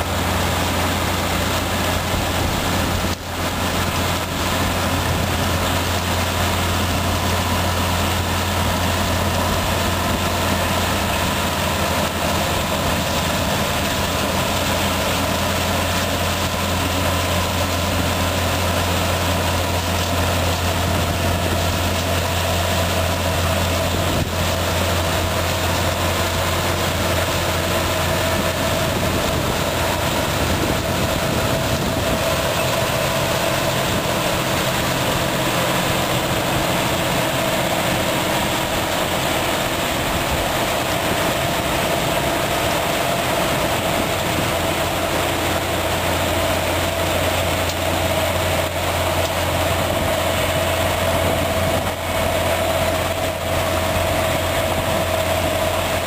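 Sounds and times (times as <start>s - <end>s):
harvester machinery running: 0.0s - 56.0s
tractor engines running under load: 0.0s - 56.0s.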